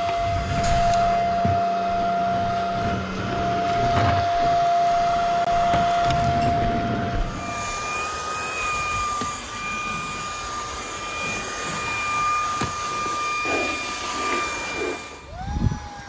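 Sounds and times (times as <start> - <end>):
stick vacuum motor whine: 0.0 - 16.0.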